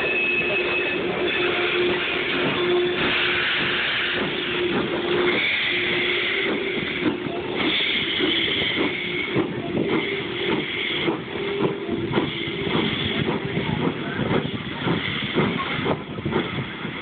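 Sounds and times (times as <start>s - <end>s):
steam hissing from locomotive: 0.0s - 17.0s
locomotive wheels knocking and clanking: 1.0s - 17.0s.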